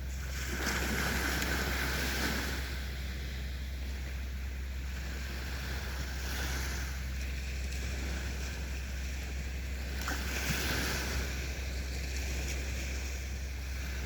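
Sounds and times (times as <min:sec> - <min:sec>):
sea waves washing onto beach: 0:00.0 - 0:14.0
steady low rumble: 0:00.0 - 0:14.0.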